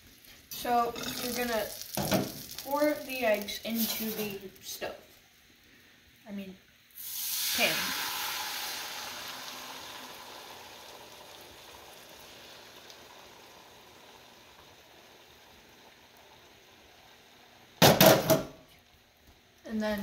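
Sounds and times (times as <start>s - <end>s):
eggs sizzling in a frying pan: 0.0s - 20.0s.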